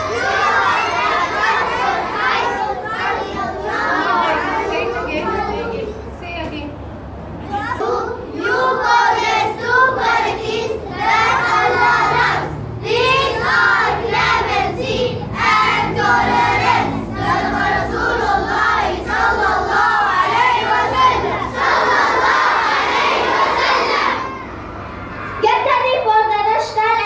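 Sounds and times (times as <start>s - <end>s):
children speaking in unison: 0.0s - 26.8s.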